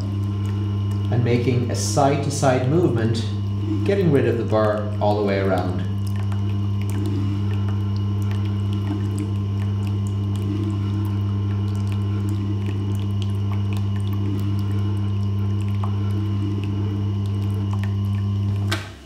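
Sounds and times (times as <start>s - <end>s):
sharpening machine humming: 0.0s - 19.0s.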